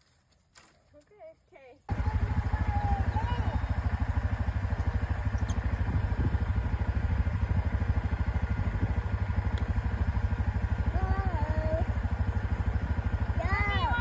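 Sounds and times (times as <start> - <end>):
atv engine chugging: 1.9 - 14.0.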